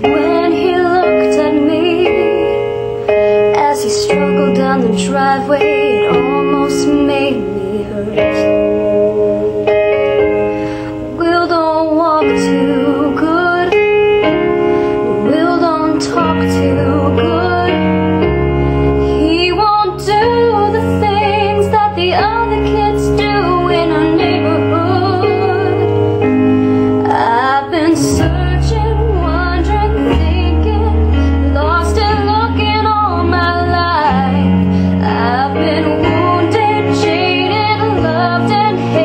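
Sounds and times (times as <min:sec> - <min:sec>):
piano backing track: 0:00.0 - 0:39.0
woman singing a slow ballad: 0:00.0 - 0:39.0
deep bass notes: 0:04.2 - 0:39.0.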